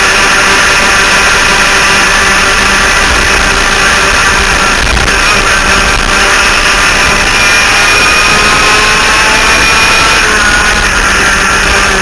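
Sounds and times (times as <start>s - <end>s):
two-stroke kart engines buzzing: 0.0s - 12.0s.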